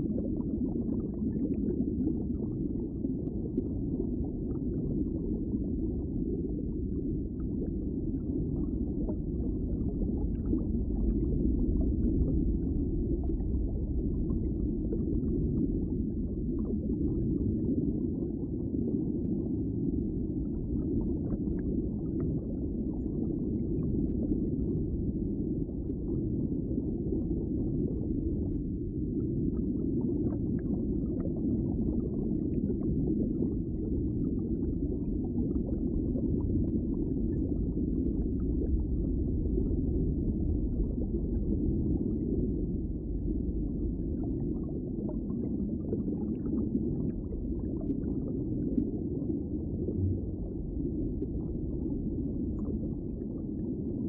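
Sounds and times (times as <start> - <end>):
underwater muffled rumble: 0.0 - 54.0.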